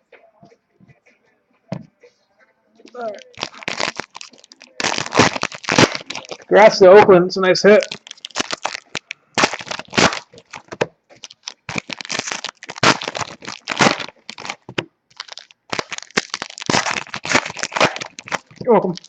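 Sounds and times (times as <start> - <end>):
plastic packaging crinkling: 2.9 - 6.8, 7.6 - 19.0.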